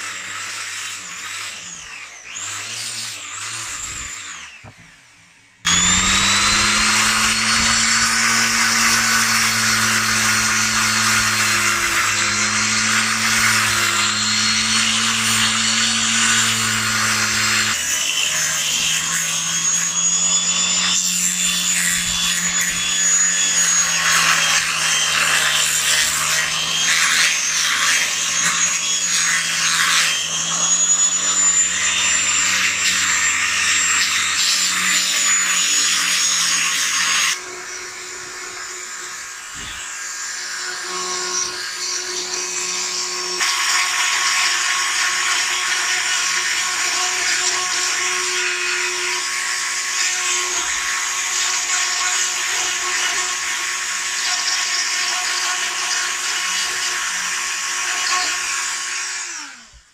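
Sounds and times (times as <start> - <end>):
disc sander whining on wood: 0.0 - 59.9
rotary tool grinding wood: 0.0 - 59.9.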